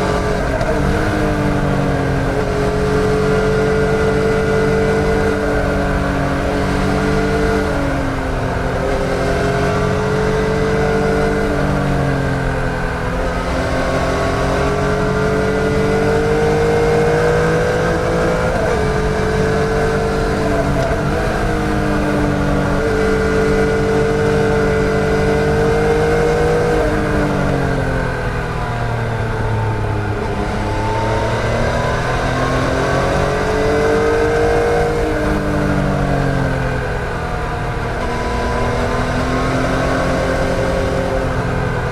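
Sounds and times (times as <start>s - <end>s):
motorcycle engine under way: 0.0s - 41.9s.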